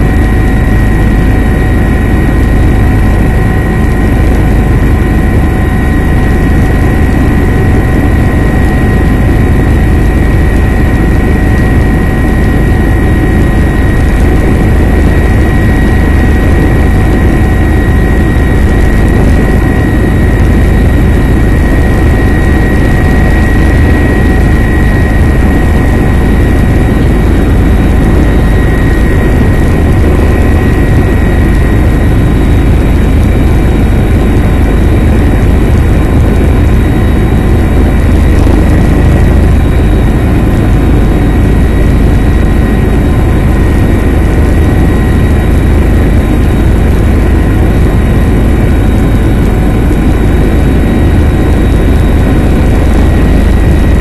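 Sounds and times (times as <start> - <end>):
helicopter rotor and turbine noise: 0.0 - 54.0
high turbine whine: 0.0 - 54.0.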